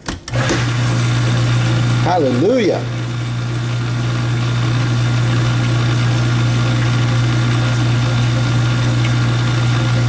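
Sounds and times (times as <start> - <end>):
dishwasher motor humming: 0.2 - 10.0.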